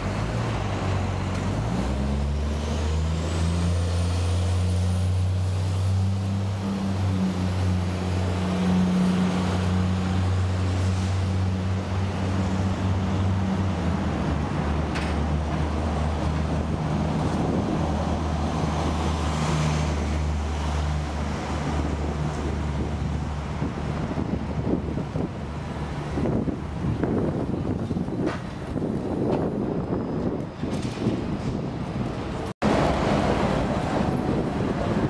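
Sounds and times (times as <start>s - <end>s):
buses running: 0.0s - 35.0s
cars passing: 0.0s - 35.0s
low engine hum: 0.0s - 35.0s.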